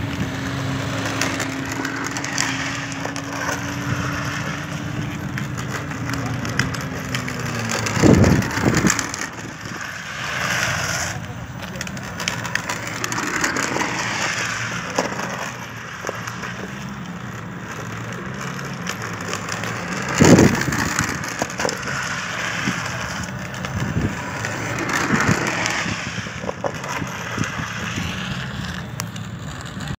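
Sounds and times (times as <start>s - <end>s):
plastic wheels scraping on asphalt: 0.0s - 29.9s.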